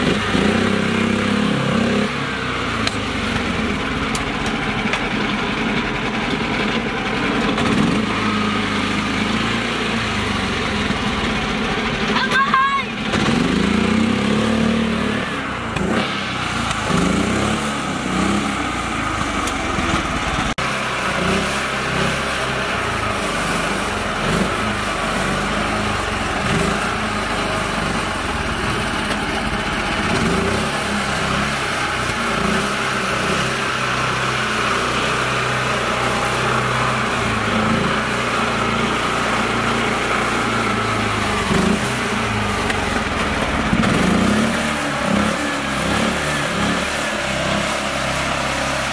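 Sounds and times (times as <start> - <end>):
tractor churning through mud: 0.0 - 48.9
tractor engine running under load: 0.0 - 48.9.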